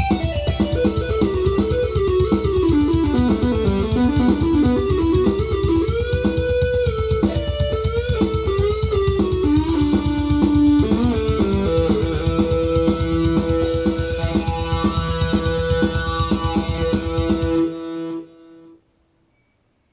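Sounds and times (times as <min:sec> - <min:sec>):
driving rhythmic backing: 0:00.0 - 0:18.4
synthesizer lead line: 0:00.0 - 0:18.7.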